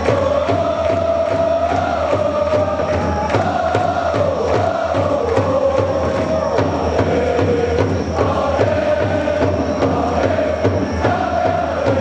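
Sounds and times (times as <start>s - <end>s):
crowd chanting: 0.0s - 12.0s
steady drum beat: 0.0s - 12.0s.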